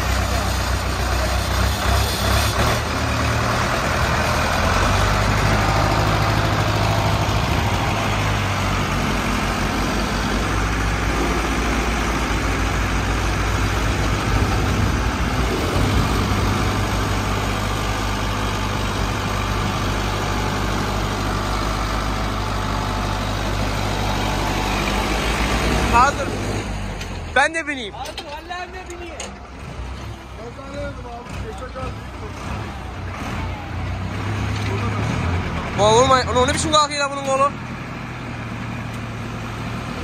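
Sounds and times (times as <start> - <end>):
tractor diesel engines running: 0.0 - 40.0.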